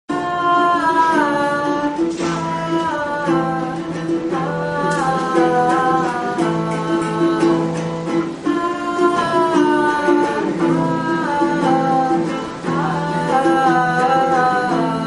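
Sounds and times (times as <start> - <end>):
plucked acoustic strings: 0.1 - 15.0
woman singing wordless notes: 0.1 - 15.0.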